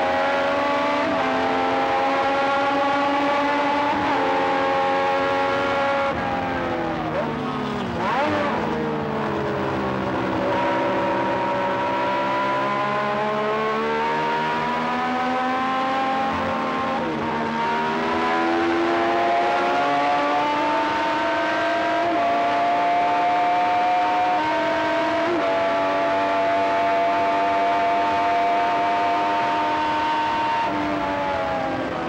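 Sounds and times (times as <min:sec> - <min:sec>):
racing car engine at high revs: 0:00.0 - 0:32.0.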